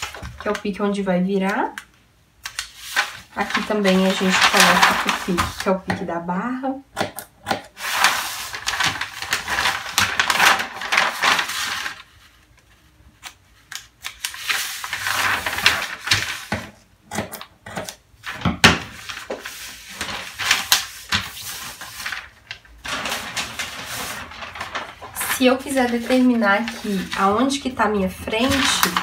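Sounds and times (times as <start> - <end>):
paper rustling and crackling: 0.0 - 0.8, 2.4 - 6.0, 7.8 - 16.8, 17.8 - 29.0.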